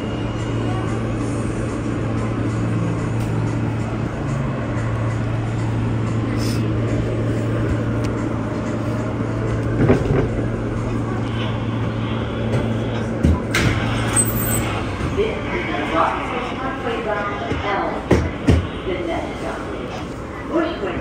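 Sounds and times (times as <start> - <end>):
subway car rumbling on track: 0.0 - 21.0.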